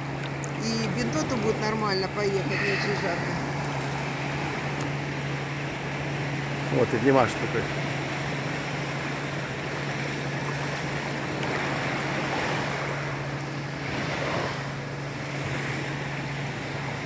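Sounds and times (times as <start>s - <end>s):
low hum: 0.0s - 17.0s
waves lapping on sandy shore: 0.0s - 17.0s.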